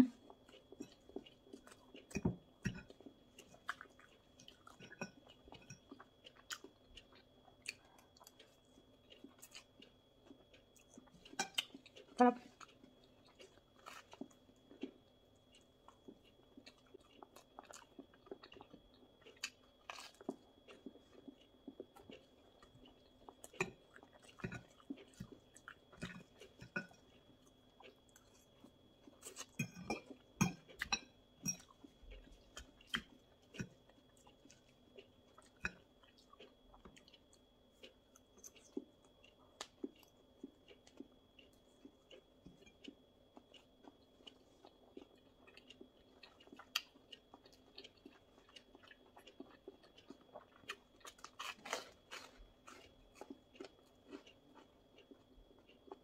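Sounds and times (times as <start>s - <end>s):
crunchy chewing and mouth clicks: 0.0s - 56.0s.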